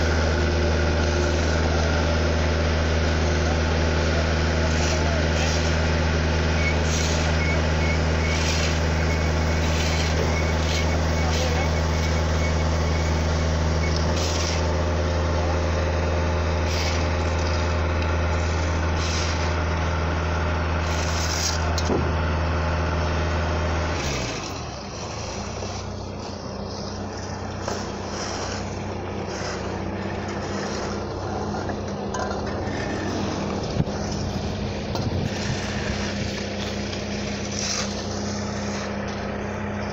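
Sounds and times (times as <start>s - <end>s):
shovels scraping asphalt: 0.0s - 21.9s, 23.0s - 39.9s
heavy machinery engine running: 0.0s - 39.9s
quieter engine hum: 0.0s - 39.9s.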